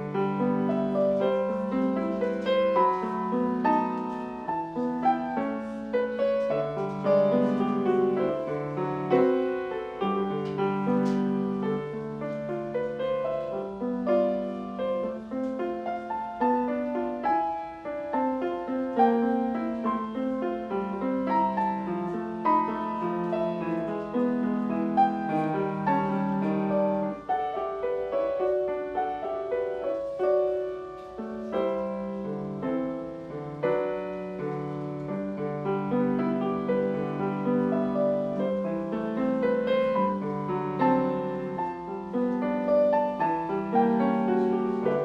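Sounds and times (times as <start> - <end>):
solo piano classical piece: 0.0 - 45.0.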